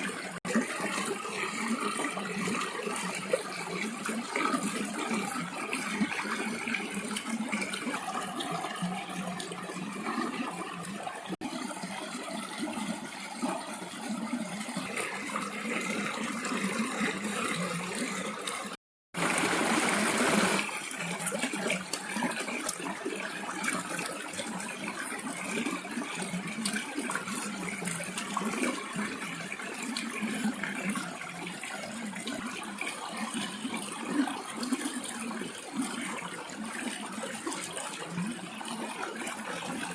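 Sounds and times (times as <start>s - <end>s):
rush of water: 0.0s - 39.9s
water trickling and splashing: 0.0s - 39.9s.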